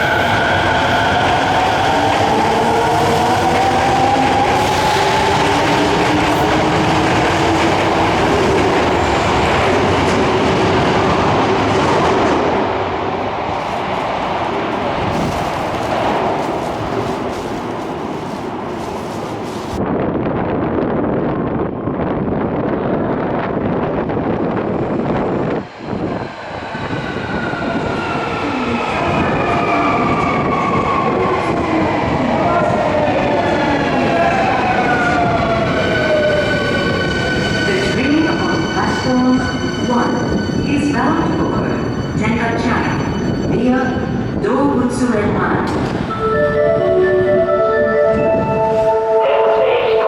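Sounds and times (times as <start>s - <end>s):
train wheels rumbling on rail: 0.0s - 46.2s.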